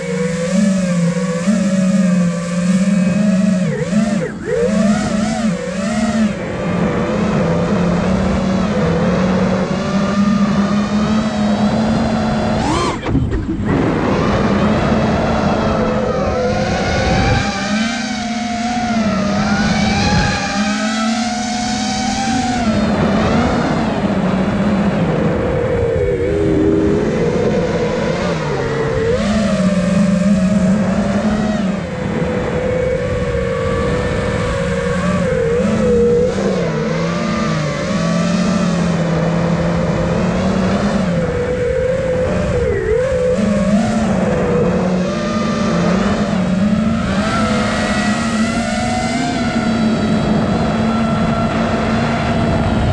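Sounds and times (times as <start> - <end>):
quadcopter motors whining: 0.0 - 52.9.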